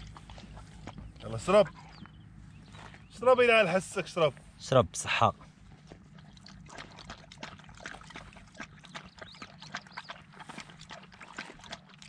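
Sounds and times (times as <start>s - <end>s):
dog lapping water: 0.0s - 3.1s, 5.4s - 12.0s.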